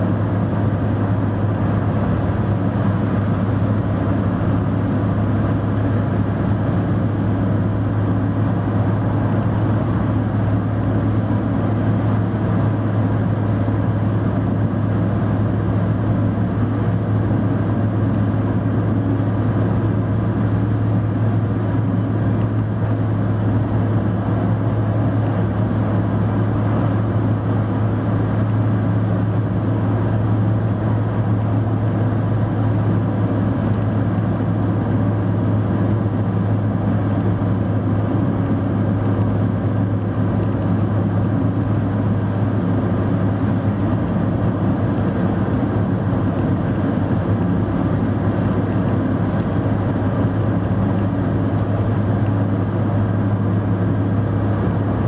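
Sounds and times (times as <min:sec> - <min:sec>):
tyre and road noise: 0:00.0 - 0:55.0.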